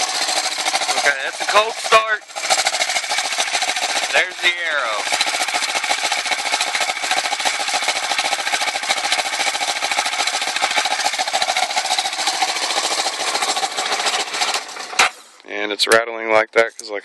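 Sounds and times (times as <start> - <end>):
motorcycle engine idling: 0.0 - 15.4
exhaust rattling: 0.0 - 16.6.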